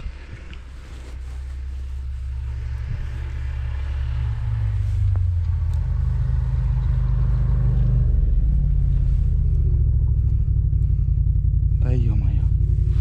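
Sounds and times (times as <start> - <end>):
snowmobile engine droning: 0.0 - 13.0.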